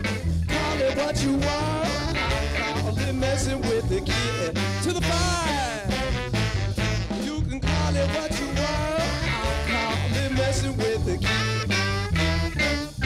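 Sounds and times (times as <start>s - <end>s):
bass guitar: 0.0s - 13.0s
drums: 0.0s - 13.0s
electric guitar: 0.0s - 13.0s
saxophones and trombone: 0.0s - 13.0s.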